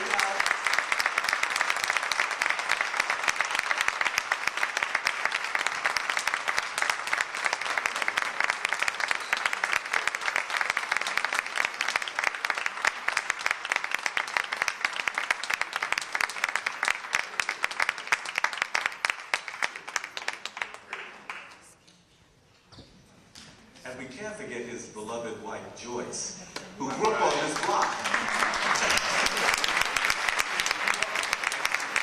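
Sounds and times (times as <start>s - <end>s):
audience applauding: 0.0s - 21.8s, 26.6s - 32.0s.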